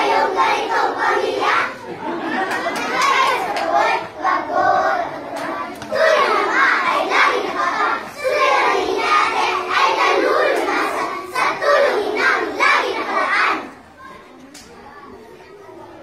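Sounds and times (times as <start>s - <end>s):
children reciting in unison: 0.0s - 14.1s.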